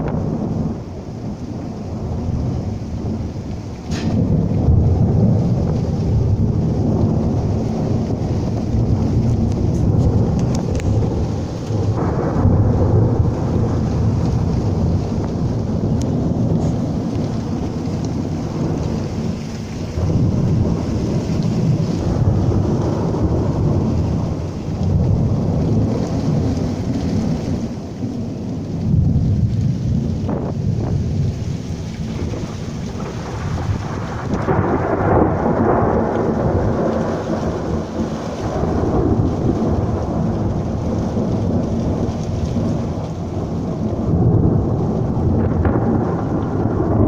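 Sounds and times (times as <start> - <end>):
steady rain: 0.0 - 47.0
thunder rumbling: 0.0 - 47.0.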